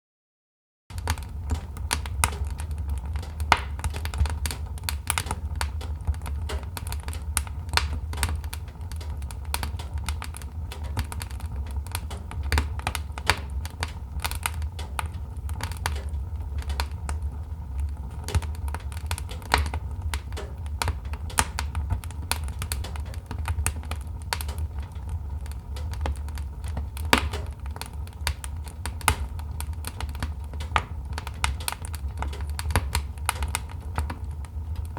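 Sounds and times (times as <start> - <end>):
low rumble of flames: 0.9 - 34.9
wood fire popping and snapping: 0.9 - 34.9.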